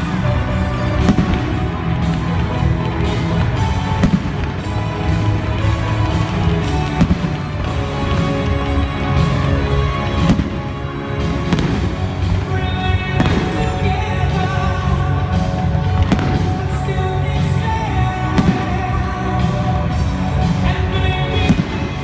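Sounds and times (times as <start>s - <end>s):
fireworks bangs: 0.0s - 22.0s
loud music through stadium speakers: 0.0s - 22.0s.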